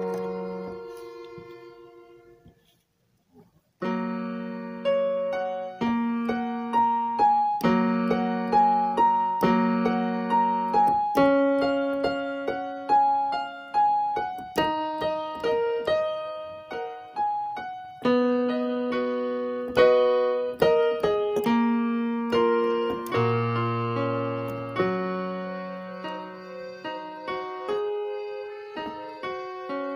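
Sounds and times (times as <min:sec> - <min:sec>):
gentle piano music: 0:00.0 - 0:02.7, 0:03.8 - 0:29.9.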